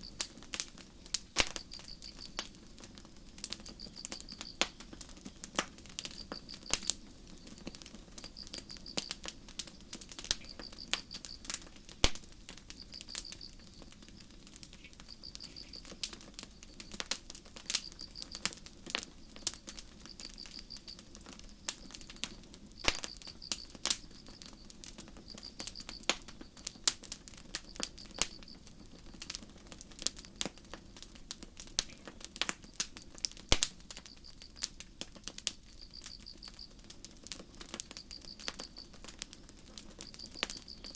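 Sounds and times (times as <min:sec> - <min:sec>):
crickets chirping: 0:00.0 - 0:29.2, 0:32.6 - 0:34.8, 0:35.5 - 0:36.8, 0:37.5 - 0:40.9
campfire crackling and popping: 0:00.0 - 0:40.9.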